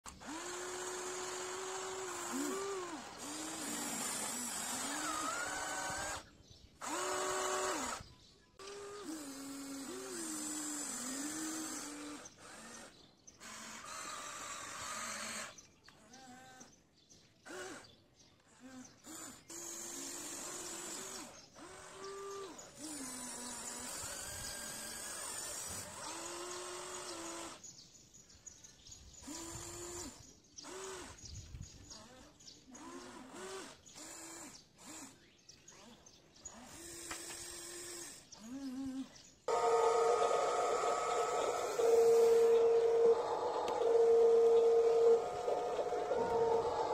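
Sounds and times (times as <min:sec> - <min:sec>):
electric motors whining: 0:00.1 - 0:16.7, 0:18.5 - 0:27.6, 0:29.2 - 0:38.8, 0:39.5 - 0:46.9.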